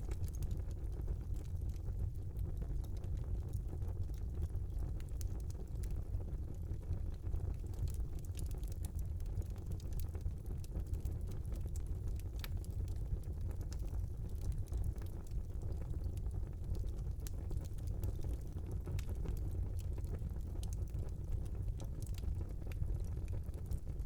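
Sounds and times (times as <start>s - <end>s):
fire crackling and popping: 0.0s - 24.0s
low rumble of fire: 0.0s - 24.0s.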